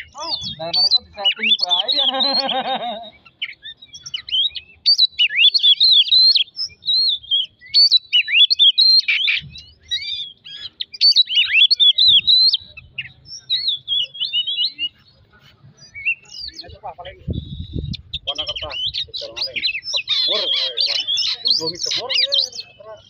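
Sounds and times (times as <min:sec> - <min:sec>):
bird singing whistled notes: 0:00.0 - 0:23.0.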